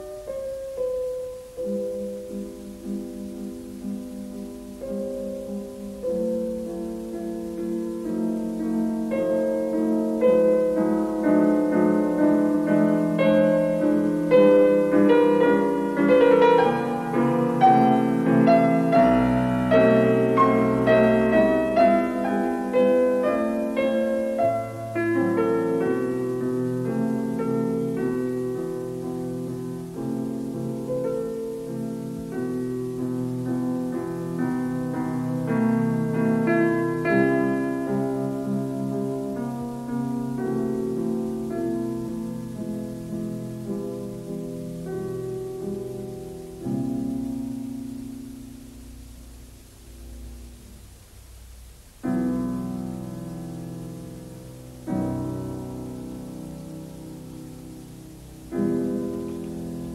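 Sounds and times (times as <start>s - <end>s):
piano piece: 0.0s - 59.9s.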